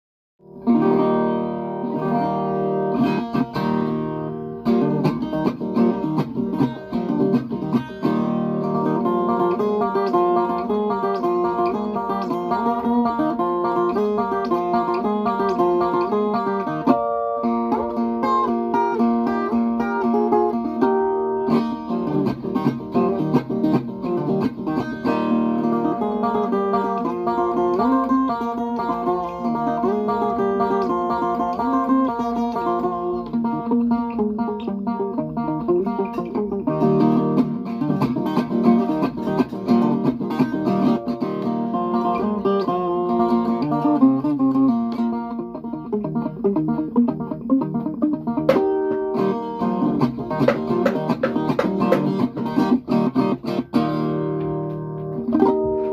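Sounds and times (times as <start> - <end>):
steel-strung guitar strumming and plucking: 0.4 - 55.9.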